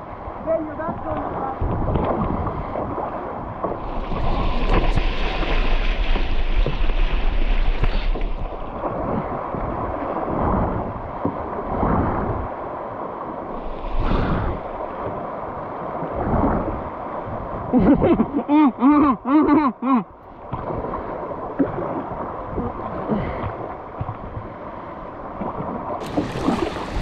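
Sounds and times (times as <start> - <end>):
wind buffeting microphone: 0.0 - 18.4, 20.2 - 27.0
water rushing around kayak: 0.0 - 27.0.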